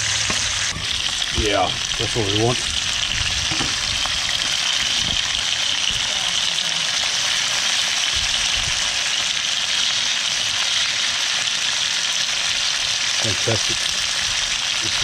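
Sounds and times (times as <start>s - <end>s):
fish frying in oil sizzling: 0.0s - 15.0s.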